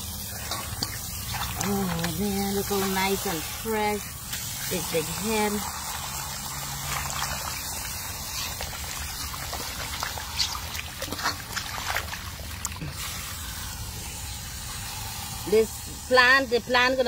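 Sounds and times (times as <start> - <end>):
water pouring into metal bowl: 0.0 - 16.1.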